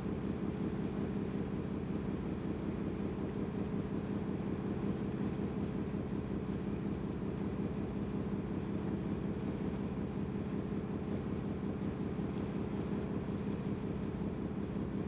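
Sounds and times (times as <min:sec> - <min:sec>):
ferry engine droning: 0:00.0 - 0:15.0.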